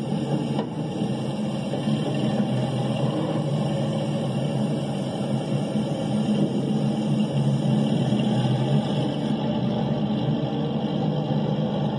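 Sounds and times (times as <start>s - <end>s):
model train droning: 0.0s - 11.9s.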